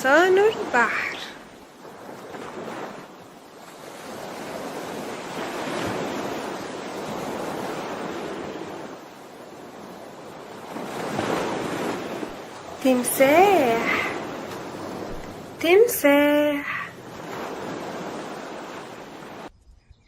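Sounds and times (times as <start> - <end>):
ocean waves washing: 0.0 - 19.5.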